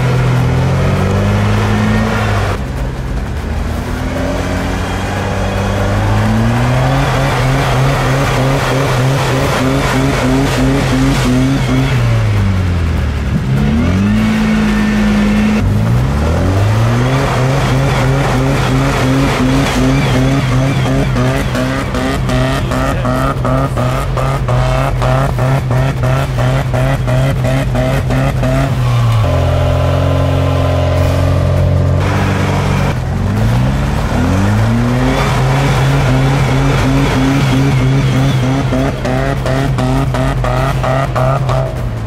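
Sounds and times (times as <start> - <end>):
engine revving hard: 0.0 - 42.0.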